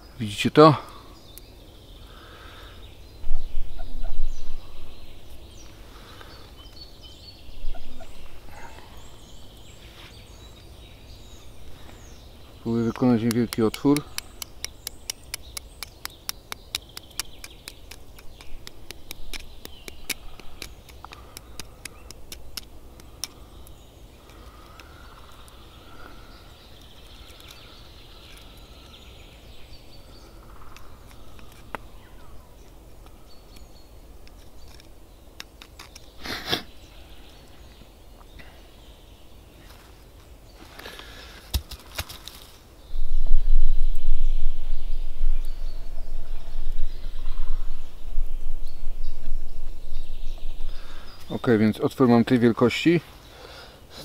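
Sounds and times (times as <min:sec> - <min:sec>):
faint birdsong: 0:00.0 - 0:54.0
rustle: 0:00.0 - 0:54.0.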